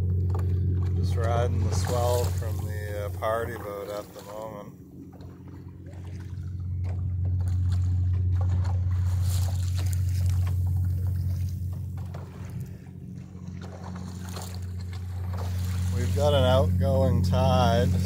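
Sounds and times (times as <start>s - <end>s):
steady low hum: 0.0s - 18.0s
water splashing against hull: 0.0s - 18.0s.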